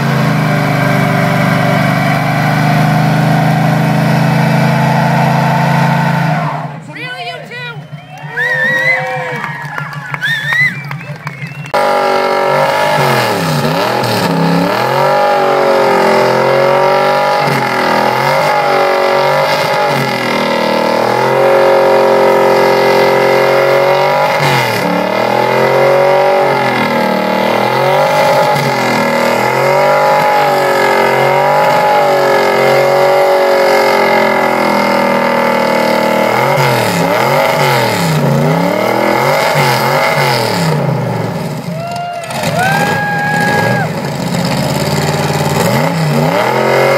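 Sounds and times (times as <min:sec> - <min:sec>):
truck engine revving hard: 0:00.0 - 0:06.8, 0:08.4 - 0:46.9.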